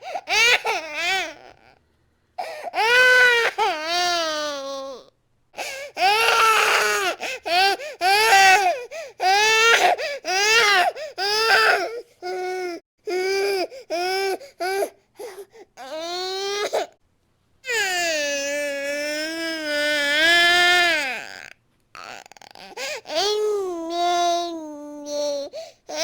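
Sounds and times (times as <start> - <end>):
infant crying: 0.0 - 1.8, 2.4 - 17.0, 17.7 - 26.0.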